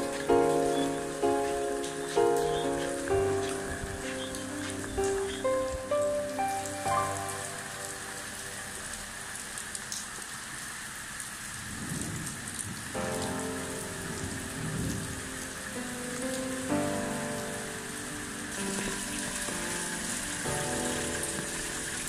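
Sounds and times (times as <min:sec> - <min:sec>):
soft background music: 0:00.0 - 0:09.8, 0:13.0 - 0:22.0
rain falling on roofs: 0:00.0 - 0:22.0.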